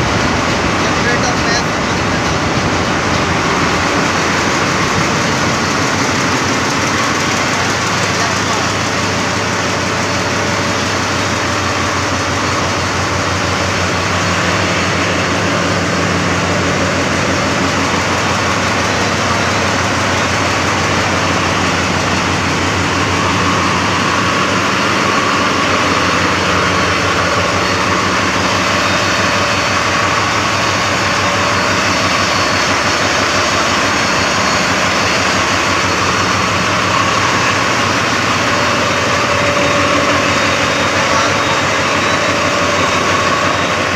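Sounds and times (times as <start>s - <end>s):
diesel engines droning: 0.0s - 43.9s.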